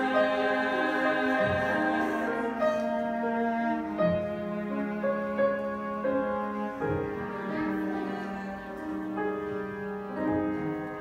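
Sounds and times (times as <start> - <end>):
cello low notes: 0.0 - 11.0
piano chords: 0.0 - 11.0.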